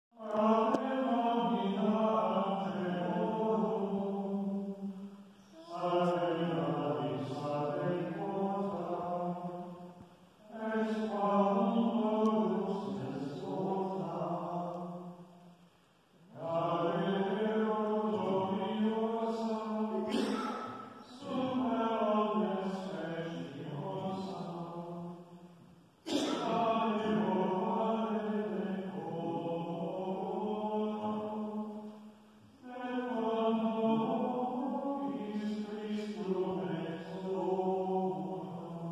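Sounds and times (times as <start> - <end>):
men singing plainchant in unison: 0.2 - 4.8, 5.6 - 9.8, 10.4 - 15.1, 16.3 - 25.2, 26.1 - 32.0, 32.6 - 38.9.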